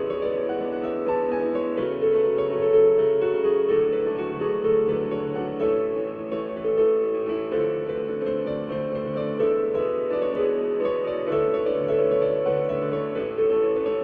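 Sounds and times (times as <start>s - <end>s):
keyboard piano melody: 0.0s - 14.0s.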